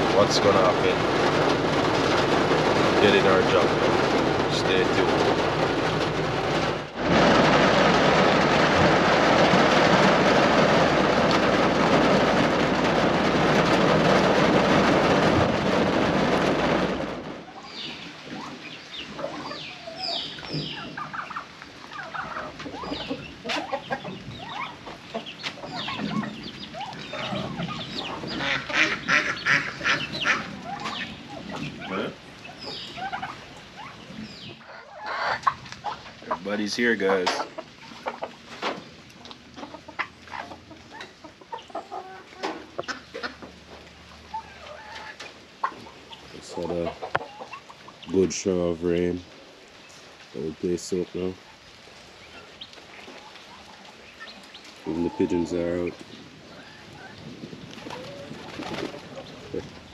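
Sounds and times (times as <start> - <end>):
heavy rain on a truck roof: 0.0 - 23.4, 24.1 - 34.7, 43.5 - 59.9
chickens and turkeys clucking: 0.0 - 59.9.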